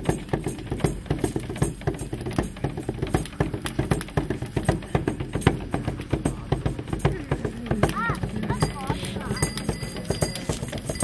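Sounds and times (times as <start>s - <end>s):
hand drum beaten fast: 0.0s - 11.0s.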